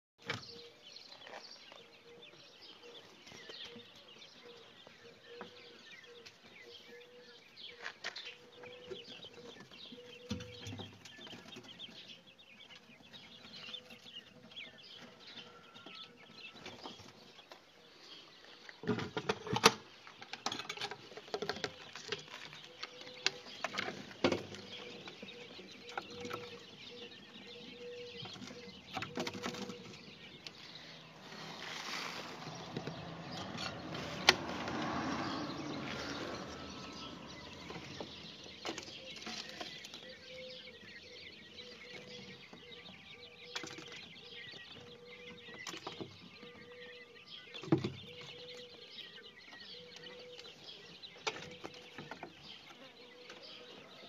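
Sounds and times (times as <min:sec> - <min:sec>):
young quails chirping: 0:00.2 - 0:54.0.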